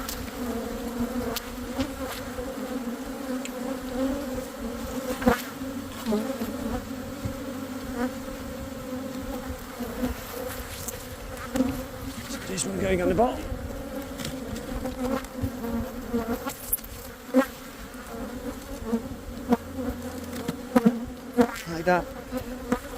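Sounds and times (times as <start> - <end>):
bees buzzing: 0.0 - 22.9.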